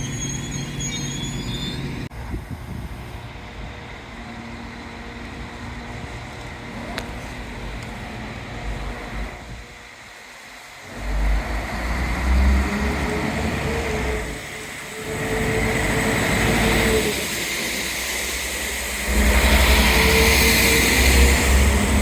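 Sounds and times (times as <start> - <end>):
train on railway: 0.0 - 22.0.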